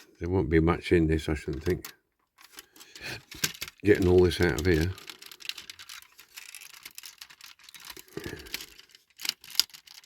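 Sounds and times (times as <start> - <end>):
plastic parts scratching and scraping: 1.4 - 10.0
small plastic clicks: 1.5 - 10.0.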